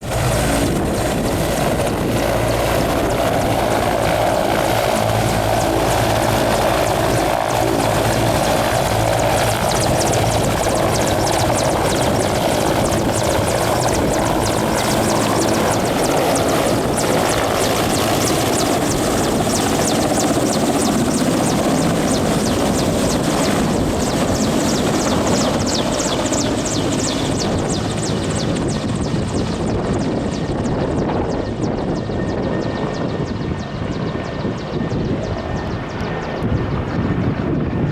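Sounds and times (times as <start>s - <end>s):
helicopter engines and rotor: 0.0s - 37.9s.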